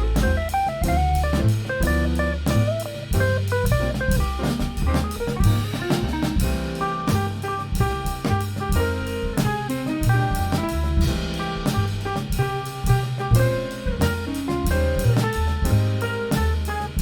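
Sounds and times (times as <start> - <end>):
bass: 0.0 - 17.0
drum kit: 0.0 - 17.0
horn line: 0.0 - 17.0.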